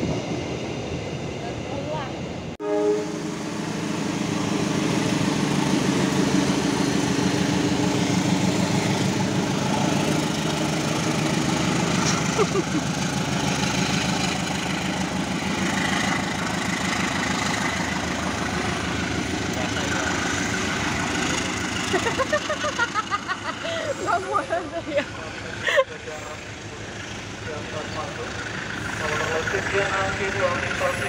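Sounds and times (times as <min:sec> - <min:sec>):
locomotive engine idling: 0:03.4 - 0:31.0.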